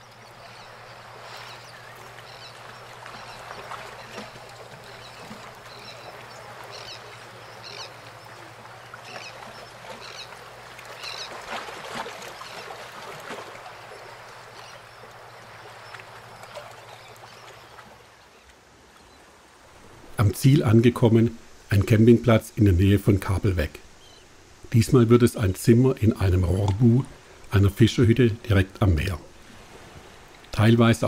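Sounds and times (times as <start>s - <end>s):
outdoor noise: 0.0s - 31.0s.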